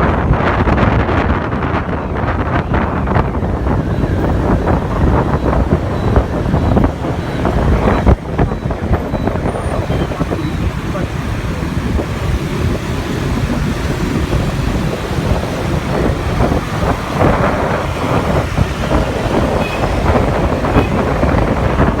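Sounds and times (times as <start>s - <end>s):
motorbike rumble: 0.0s - 22.0s
surrounding traffic: 0.0s - 22.0s
wind buffeting microphone: 0.0s - 22.0s.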